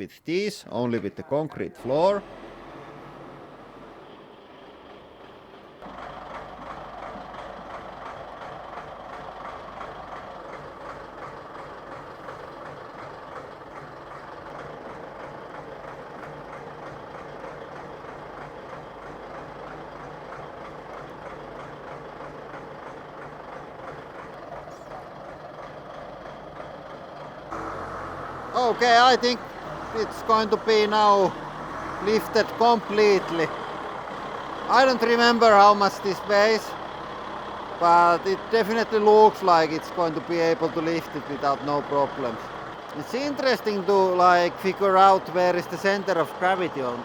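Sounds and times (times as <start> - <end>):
forklift engine running: 1.8 - 47.0.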